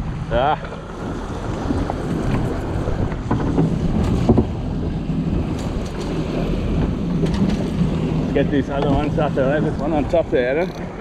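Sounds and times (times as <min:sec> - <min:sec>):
outboard motor running: 0:00.0 - 0:11.0
wind buffeting microphone: 0:00.0 - 0:11.0.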